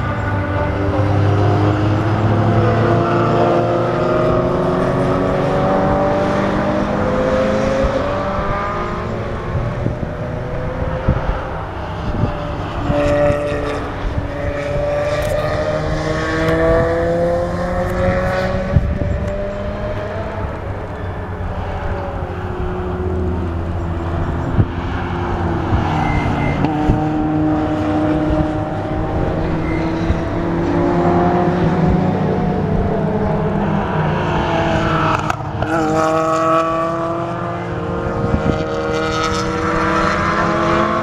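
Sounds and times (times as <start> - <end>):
race car engines accelerating: 0.0 - 41.0.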